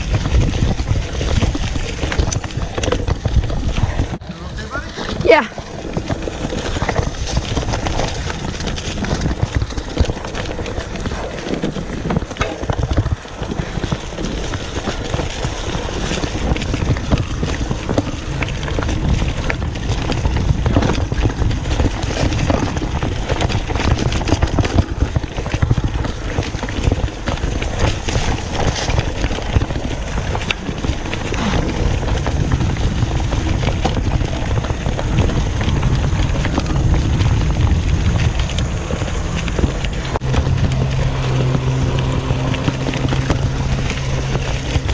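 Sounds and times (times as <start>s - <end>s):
bike rattling over rough ground: 0.0s - 44.9s
bike tyre noise on dirt: 0.0s - 44.9s
wind buffeting microphone: 0.0s - 44.9s.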